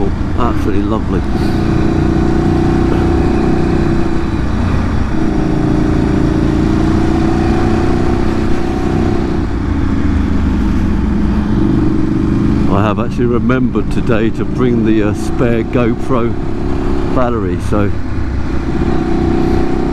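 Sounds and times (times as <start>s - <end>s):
motorcycle engine running: 0.0s - 19.9s.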